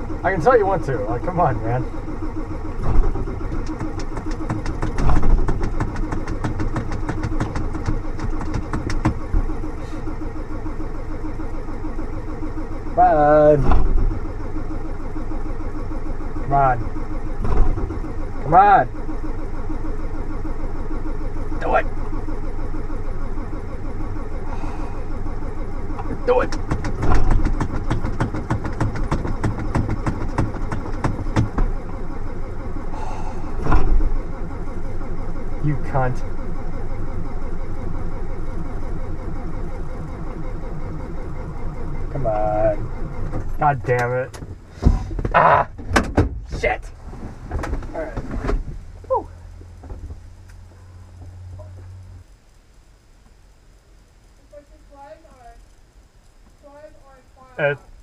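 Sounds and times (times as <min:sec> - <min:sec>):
diesel engine cranking: 0:00.0 - 0:53.7.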